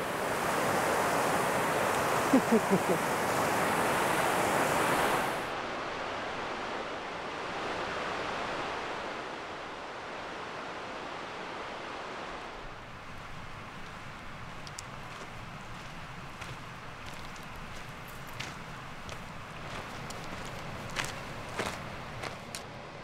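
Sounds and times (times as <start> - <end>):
rushing creek water: 0.0 - 22.7.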